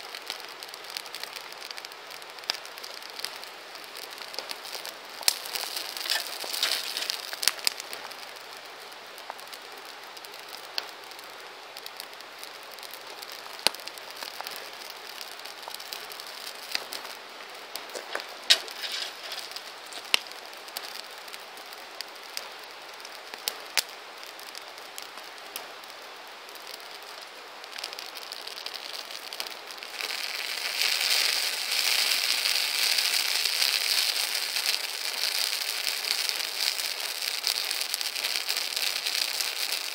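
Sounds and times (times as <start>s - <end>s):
campfire flames hissing: 0.0s - 39.9s
wood popping and crackling: 0.0s - 39.9s.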